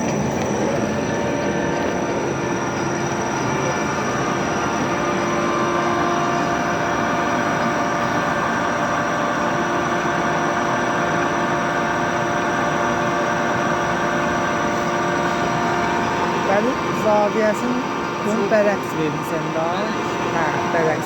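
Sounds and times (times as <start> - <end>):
steady machine tones: 0.0 - 21.0.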